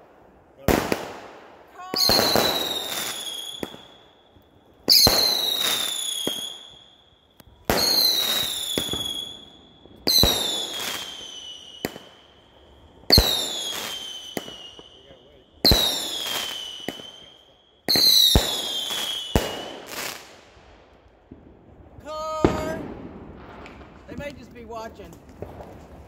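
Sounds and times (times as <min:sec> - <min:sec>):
fireworks bangs: 0:00.0 - 0:26.0
sharp fireworks cracks: 0:00.0 - 0:26.0
falling fireworks whistle: 0:01.7 - 0:20.2, 0:22.0 - 0:26.0.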